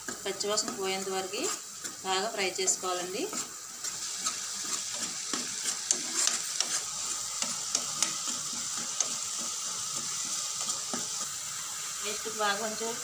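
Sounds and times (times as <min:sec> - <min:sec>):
spoon scraping and knocking pan: 0:00.0 - 0:11.5
paste sizzling in hot oil: 0:00.0 - 0:13.0.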